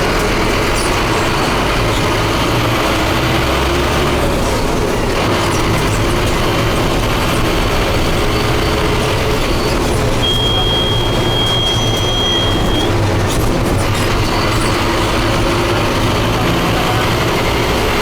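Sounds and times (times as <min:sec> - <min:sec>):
diesel bus engine rumble: 0:00.0 - 0:18.0
road noise: 0:00.0 - 0:18.0.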